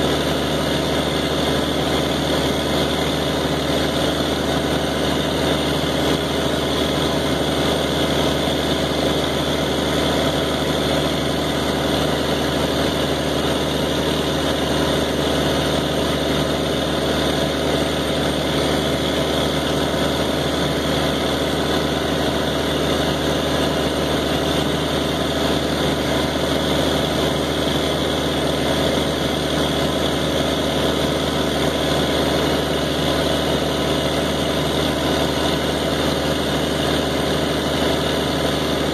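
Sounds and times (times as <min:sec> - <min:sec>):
pump engine droning: 0:00.0 - 0:38.9.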